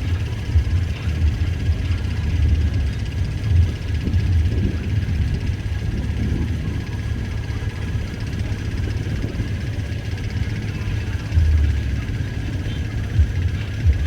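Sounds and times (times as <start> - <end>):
boat engines rumbling: 0.0 - 14.0
faint steady whine: 0.0 - 14.0.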